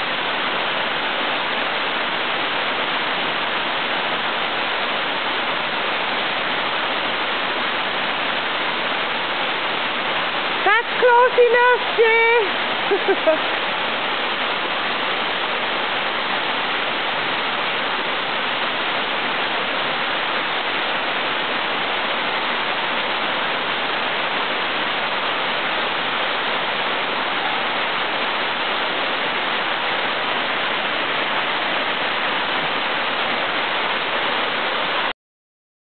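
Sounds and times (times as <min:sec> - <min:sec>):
waterfall rushing: 0:00.0 - 0:35.1.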